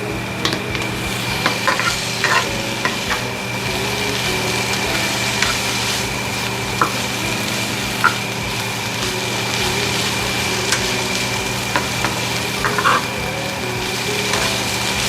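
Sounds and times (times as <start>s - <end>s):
food sizzling in frying pan: 0.0s - 15.0s
steady hum: 0.0s - 15.0s
utensil scraping pan: 0.4s - 15.0s.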